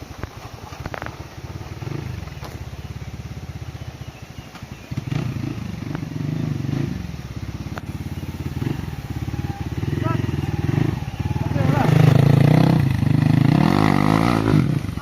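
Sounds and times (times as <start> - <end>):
dirt bike engine revving: 1.0 - 15.0.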